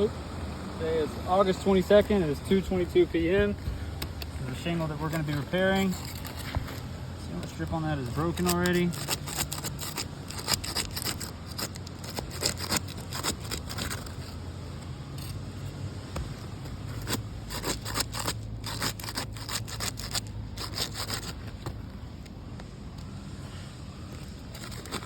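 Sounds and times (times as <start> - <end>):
steady low hum: 0.0 - 25.0
roof shingles crackling and scraping: 1.0 - 25.0.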